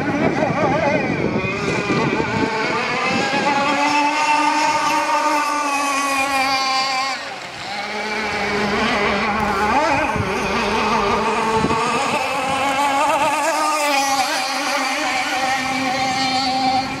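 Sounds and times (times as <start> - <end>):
model boat engine at high revs: 0.0 - 17.0.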